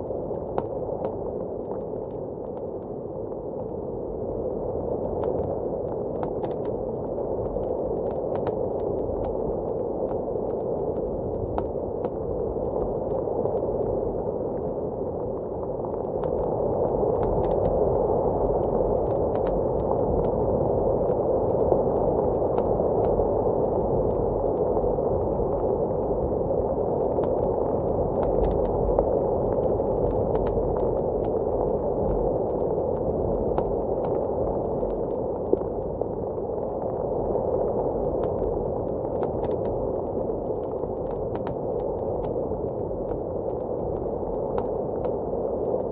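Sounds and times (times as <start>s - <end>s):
muffled blizzard wind: 0.0s - 45.9s.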